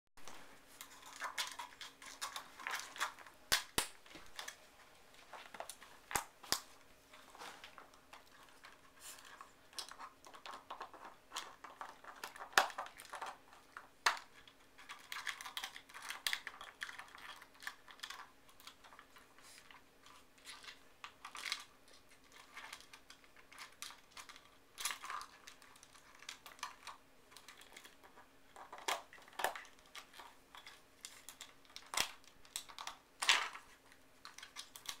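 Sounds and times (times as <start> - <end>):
faint steady hum: 0.2 - 35.0.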